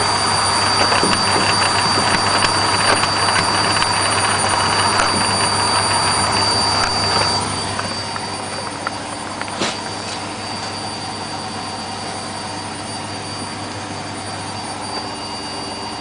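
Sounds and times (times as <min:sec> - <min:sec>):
high-pitched whine: 0:00.0 - 0:16.0
washing machine spinning: 0:00.0 - 0:16.0.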